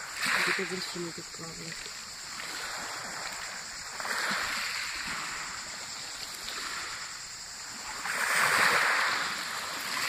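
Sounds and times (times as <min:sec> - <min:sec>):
waves washing onto pebbles: 0:00.0 - 0:10.0.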